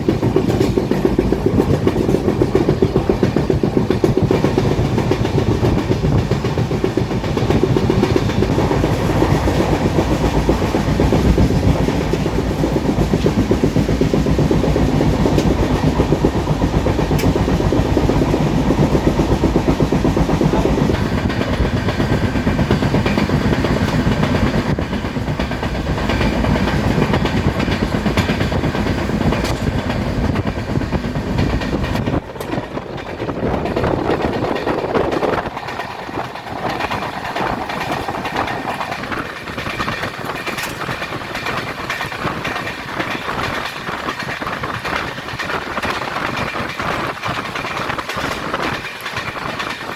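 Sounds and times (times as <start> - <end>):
train rumbling with wheel clatter: 0.0 - 49.9.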